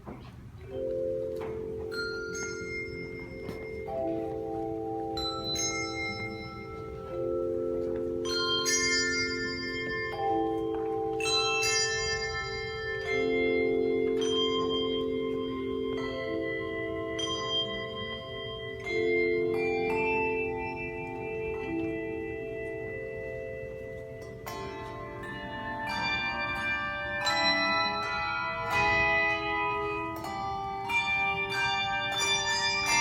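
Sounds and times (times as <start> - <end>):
handbell choir playing: 0.7 - 33.0.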